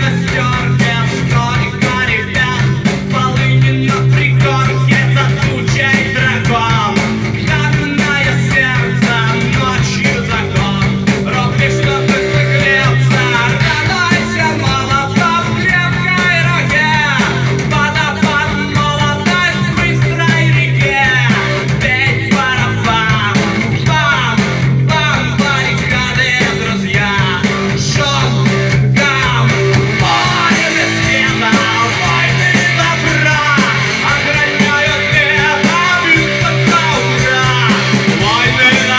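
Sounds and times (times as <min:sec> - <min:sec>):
person singing: 0:00.0 - 0:38.9
rock band with guitar: 0:00.0 - 0:38.9.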